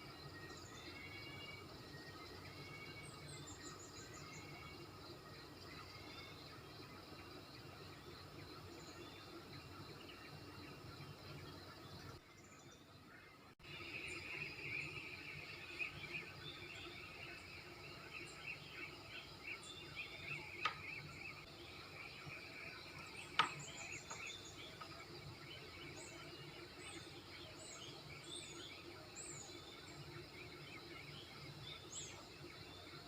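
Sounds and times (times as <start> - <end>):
birds chirping: 0.0 - 33.0
faint steady hum: 0.0 - 33.0.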